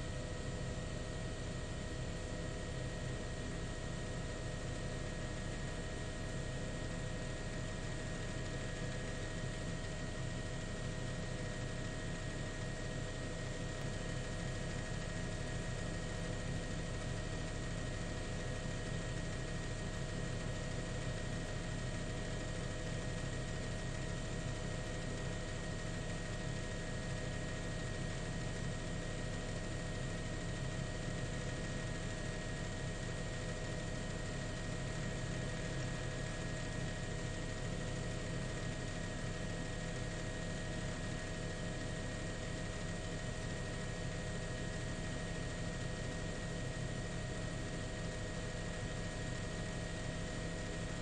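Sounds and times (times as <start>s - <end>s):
helicopter engine and rotor drone: 0.0s - 51.0s.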